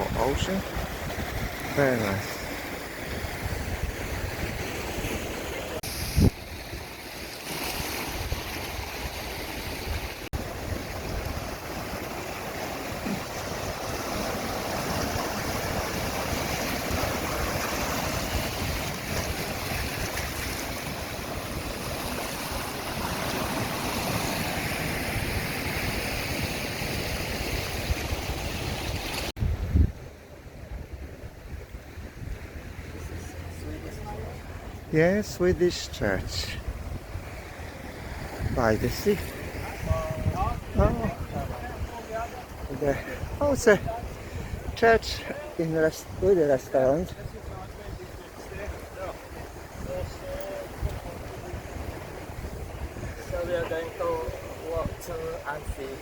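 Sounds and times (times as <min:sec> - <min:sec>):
wind buffeting microphone: 0:00.0 - 0:07.0, 0:08.0 - 0:56.0
sea surf washing: 0:00.0 - 0:56.0.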